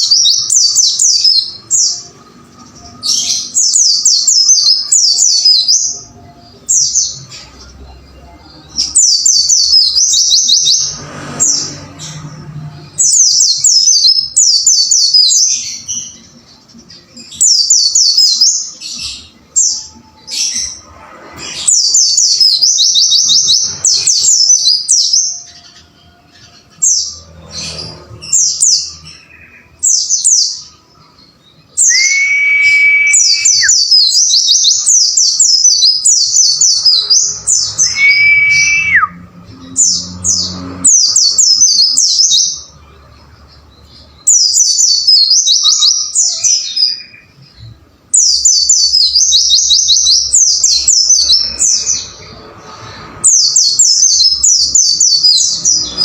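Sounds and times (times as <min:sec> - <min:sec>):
bird chirping high-pitched: 0:00.0 - 0:42.8, 0:43.5 - 0:56.0.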